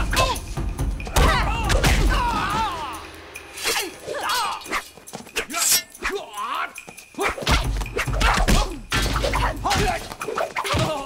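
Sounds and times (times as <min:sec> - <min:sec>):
wavering cries and yells: 0:00.0 - 0:11.0.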